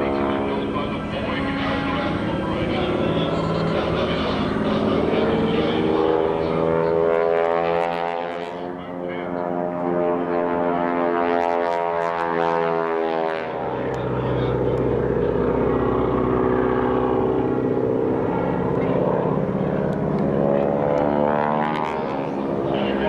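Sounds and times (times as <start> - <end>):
propeller airplane engine droning: 0.0 - 23.0.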